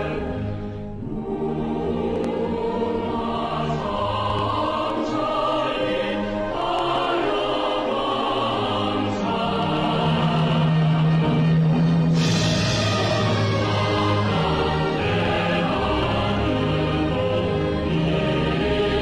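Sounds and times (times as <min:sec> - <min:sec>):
orchestral music with choir: 0:00.0 - 0:19.0.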